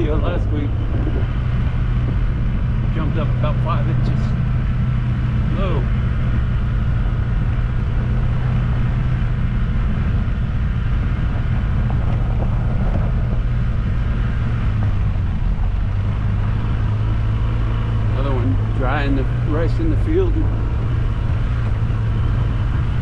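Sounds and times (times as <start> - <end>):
road noise: 0.0 - 23.0
vehicle engine humming: 0.0 - 23.0.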